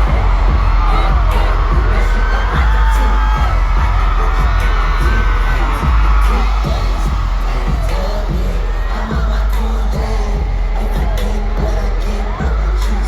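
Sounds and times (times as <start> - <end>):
crowd screaming and cheering: 0.0 - 13.0
live concert music with heavy bass: 0.0 - 13.0.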